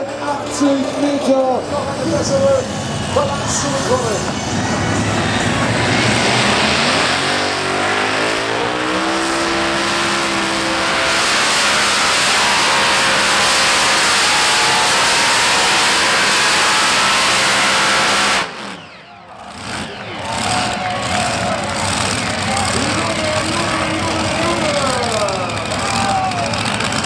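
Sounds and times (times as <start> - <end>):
pulling tractor engines at full power: 0.0 - 27.0.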